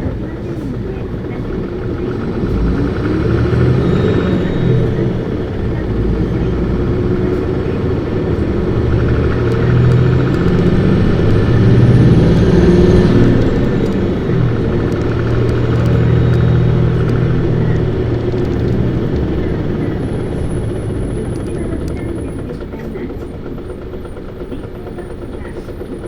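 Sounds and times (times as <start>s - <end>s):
bus diesel engine revving: 0.0s - 26.0s.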